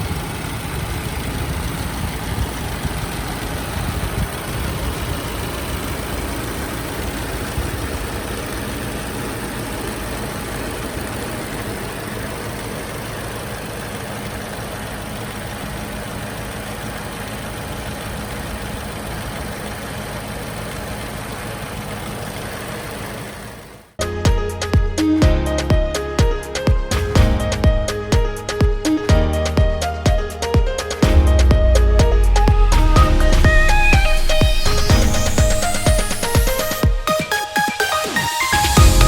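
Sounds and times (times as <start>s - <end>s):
car engine running: 0.0s - 39.0s.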